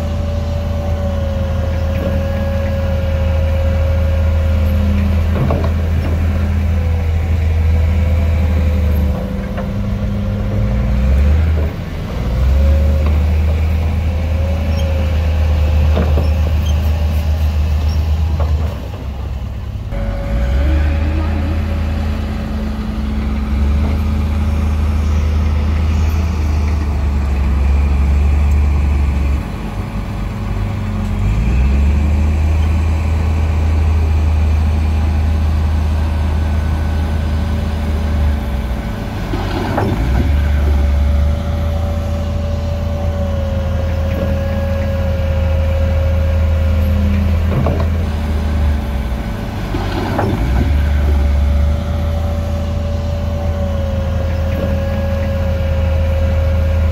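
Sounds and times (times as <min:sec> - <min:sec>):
diesel machinery engine drone: 0:00.0 - 0:56.9.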